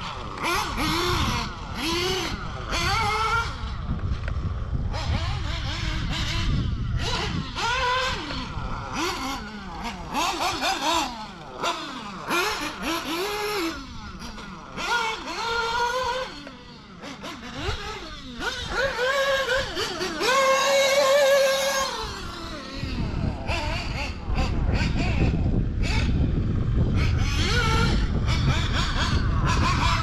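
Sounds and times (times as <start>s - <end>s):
rc car engine revving: 0.0s - 30.0s.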